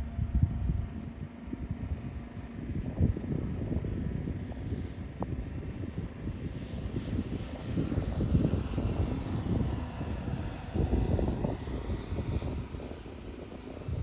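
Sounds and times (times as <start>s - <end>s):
electric motor high whine: 0.0s - 14.0s
gusty low rumble: 0.0s - 14.0s.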